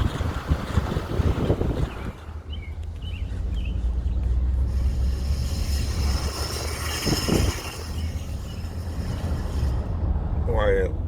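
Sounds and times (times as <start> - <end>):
engine rattling: 0.0 - 11.0.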